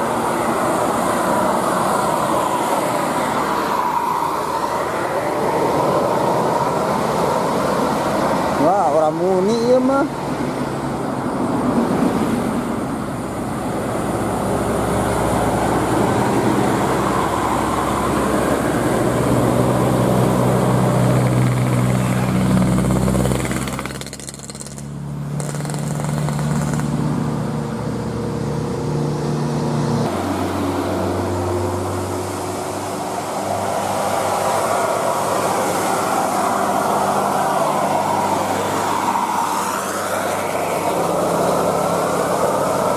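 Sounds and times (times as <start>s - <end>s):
bus engine running under load: 0.0s - 42.9s
road noise: 0.0s - 42.9s.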